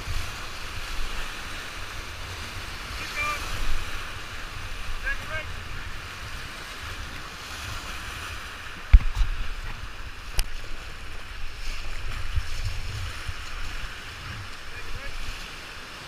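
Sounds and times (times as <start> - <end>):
wind buffeting microphone: 0.0 - 15.4
whitewater rapids rushing: 0.0 - 16.0.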